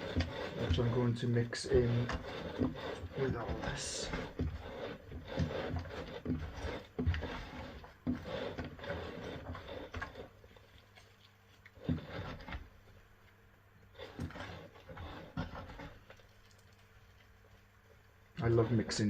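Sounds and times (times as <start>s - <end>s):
soil rustling and scraping: 0.0s - 13.0s, 13.9s - 17.6s, 18.3s - 19.0s.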